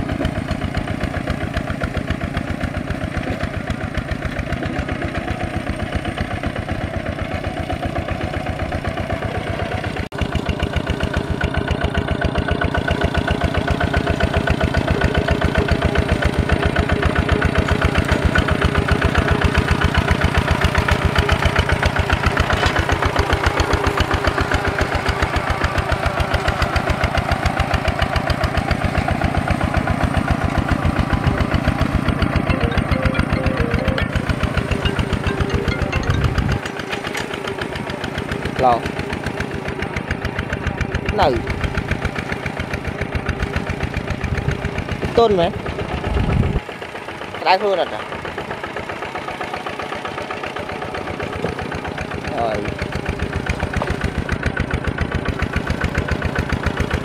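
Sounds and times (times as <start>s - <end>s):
diesel tractor engine chugging: 0.0s - 57.0s.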